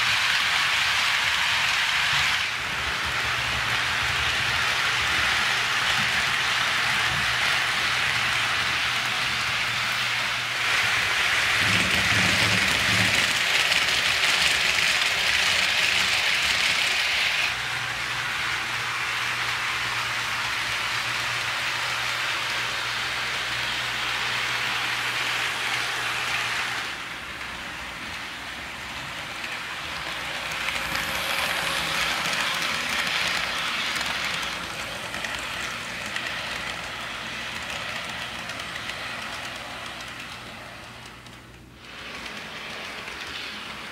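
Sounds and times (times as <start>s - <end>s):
model train wheels rolling on rails: 0.0s - 43.9s.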